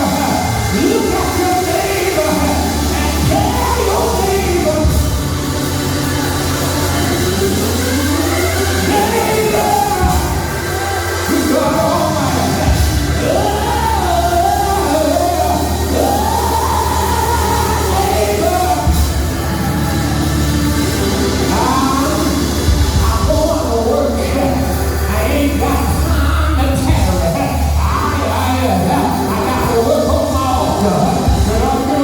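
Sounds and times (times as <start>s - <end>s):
deep bass line: 0.0s - 32.0s
person singing: 0.0s - 32.0s.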